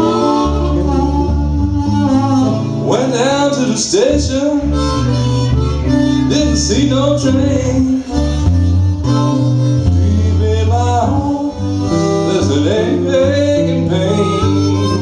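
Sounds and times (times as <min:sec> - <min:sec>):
acoustic guitar accompaniment: 0:00.0 - 0:15.0
blues harmonica: 0:00.0 - 0:15.0.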